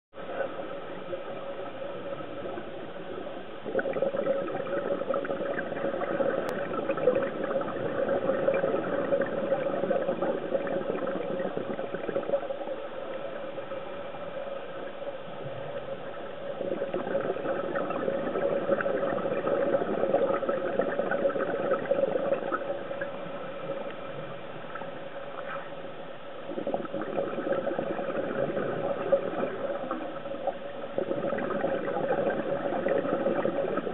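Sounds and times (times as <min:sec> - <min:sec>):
bubbling gurgling water underwater: 0:00.2 - 0:13.8, 0:14.9 - 0:33.9
steady hum: 0:00.2 - 0:33.9.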